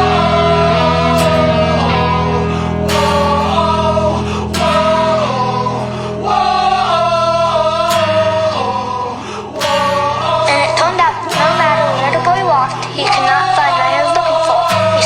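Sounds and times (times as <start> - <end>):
rock song with sung vocals: 0.0 - 15.0.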